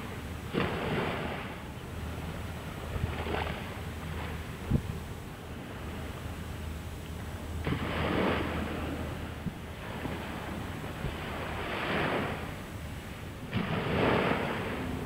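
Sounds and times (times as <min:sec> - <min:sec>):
boat engines humming: 0:00.0 - 0:15.0
sea waves washing in: 0:00.0 - 0:15.0.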